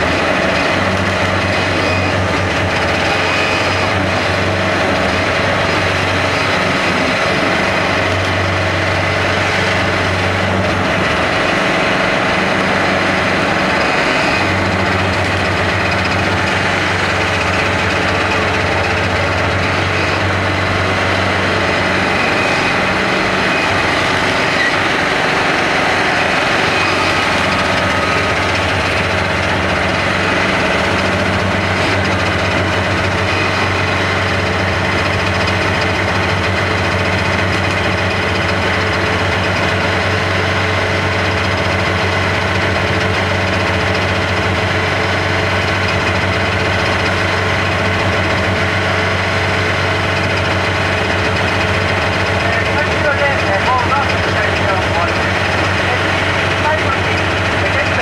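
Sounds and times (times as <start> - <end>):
engine idling with low hum: 0.0 - 58.0.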